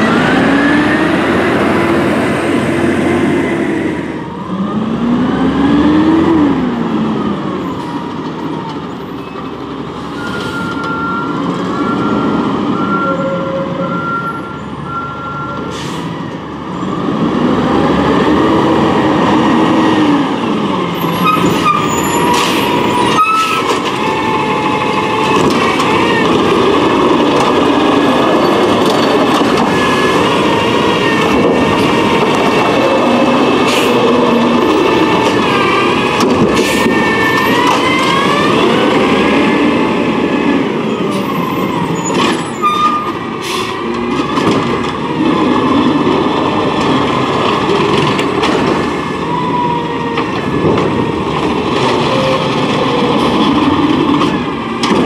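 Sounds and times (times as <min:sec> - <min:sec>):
truck pulling away: 0:00.0 - 0:55.0.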